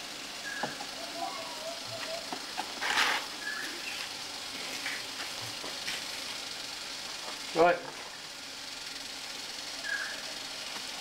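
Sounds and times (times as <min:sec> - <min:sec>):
food sizzling on hotplate: 0:00.0 - 0:11.0.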